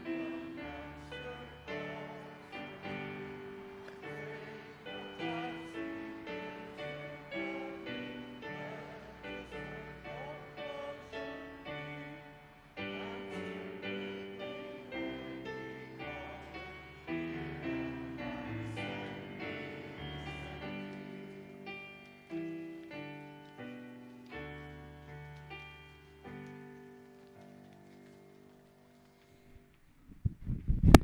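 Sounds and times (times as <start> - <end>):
piano playing slow hymn: 0.0 - 29.7.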